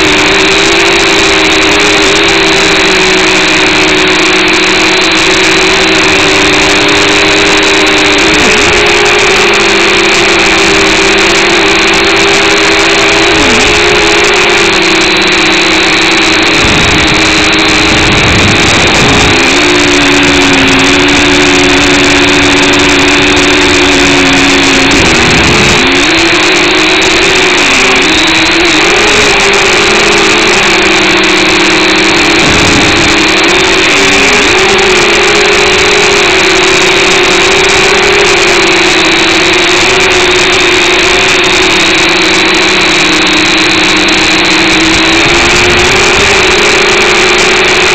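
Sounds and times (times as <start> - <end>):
quadcopter motors buzzing: 0.0 - 47.9.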